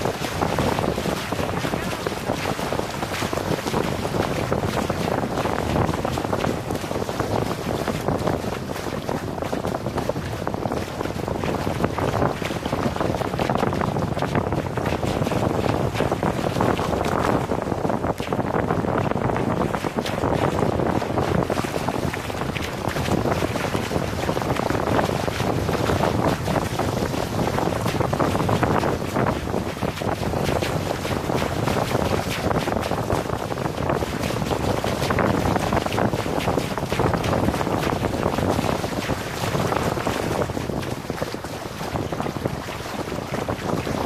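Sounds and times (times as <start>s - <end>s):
water rushing along hulls: 0.0s - 44.0s
wind buffeting microphone: 0.0s - 44.0s.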